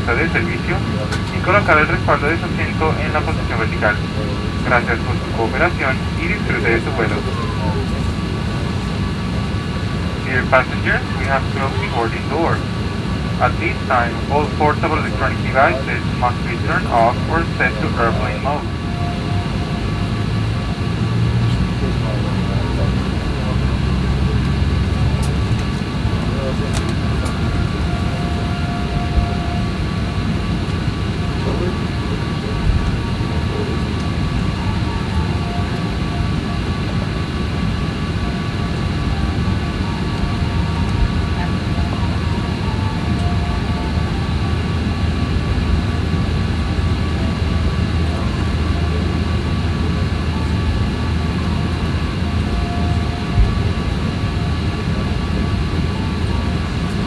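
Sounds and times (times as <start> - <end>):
airplane cabin drone: 0.0 - 57.0
faint steady tones: 0.0 - 57.0.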